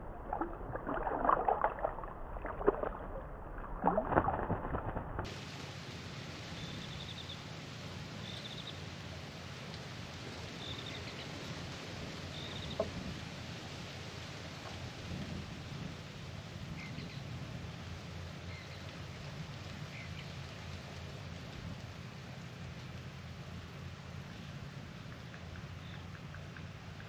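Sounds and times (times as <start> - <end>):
water splashing in birdbath: 0.0 - 27.0
steady background hiss: 5.3 - 27.0.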